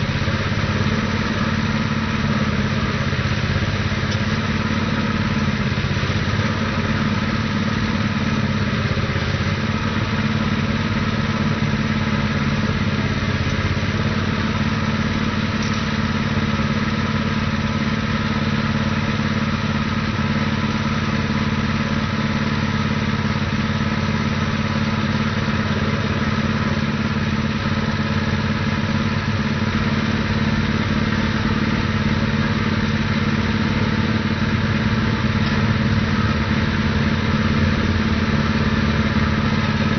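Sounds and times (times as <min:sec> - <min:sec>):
percussion drill rig drilling: 0:00.0 - 0:39.9
petrol engine running: 0:00.0 - 0:39.9.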